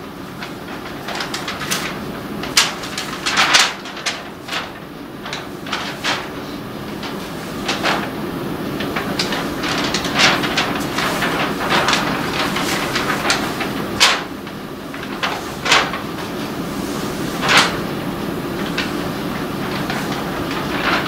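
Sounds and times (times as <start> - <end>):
low room noise: 0.0 - 21.0
stiff paper rustling and crackling: 0.1 - 21.0.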